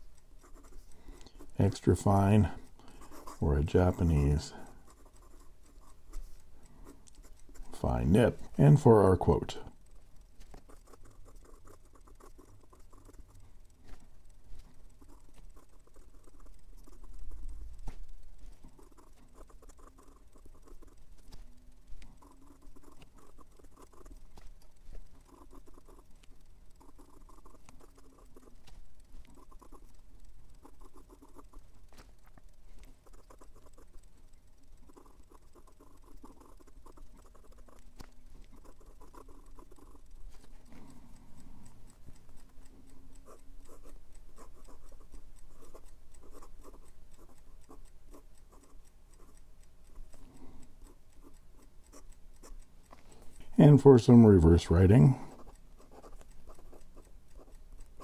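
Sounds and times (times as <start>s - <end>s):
fountain pen scratching on paper: 0.0s - 9.7s, 10.4s - 58.0s.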